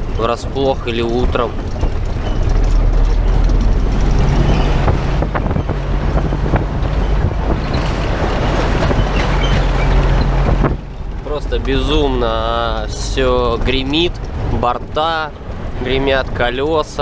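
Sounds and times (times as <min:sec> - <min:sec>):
trailer rattling and knocking: 0:00.0 - 0:17.0
truck engine drone: 0:00.0 - 0:17.0.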